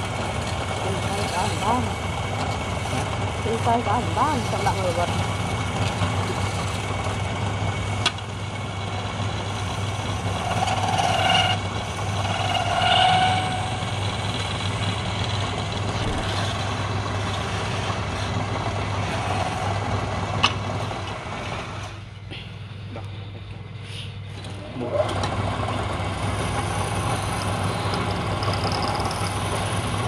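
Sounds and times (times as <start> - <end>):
chisel cutting spinning wood: 0.0 - 22.1, 24.4 - 30.0
wood lathe motor hum: 0.0 - 22.2, 24.3 - 30.0.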